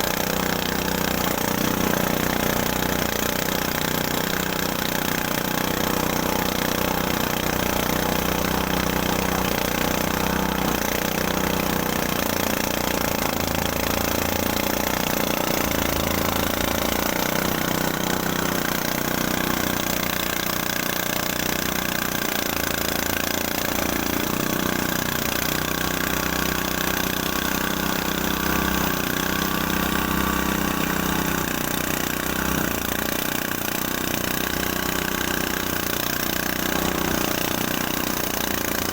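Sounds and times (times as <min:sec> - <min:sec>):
threshing machine running: 0:00.0 - 0:38.9.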